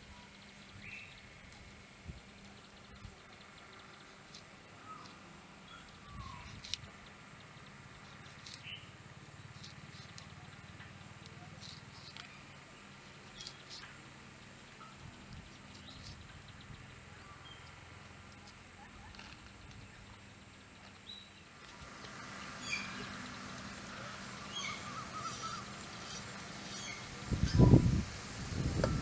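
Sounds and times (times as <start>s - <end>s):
faint bird chirps: 0.0s - 21.5s, 22.2s - 27.8s
steady high hiss: 0.0s - 29.0s.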